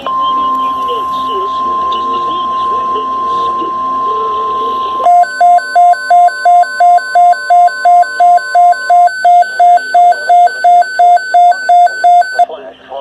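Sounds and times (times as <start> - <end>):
alternating two-tone alarm: 0.0 - 12.4
faint steady warning tone: 0.0 - 12.5.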